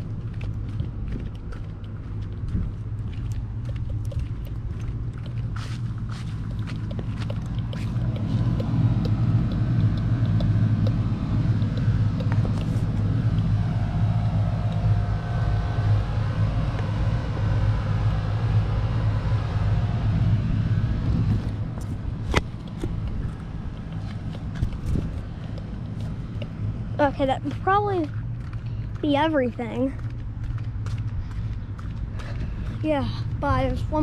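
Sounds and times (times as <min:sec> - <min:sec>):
condenser units humming: 0:00.0 - 0:34.0
faint machine whine: 0:00.0 - 0:34.0.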